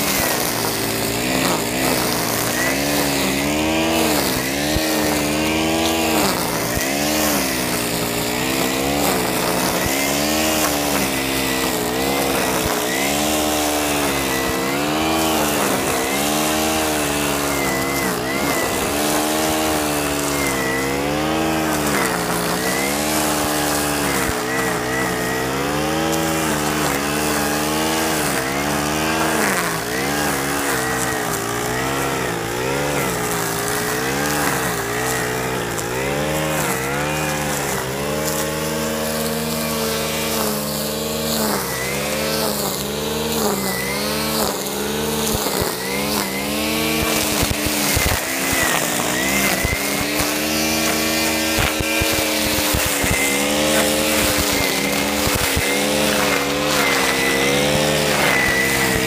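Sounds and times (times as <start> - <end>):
string trimmer engine revving: 0.0 - 59.0.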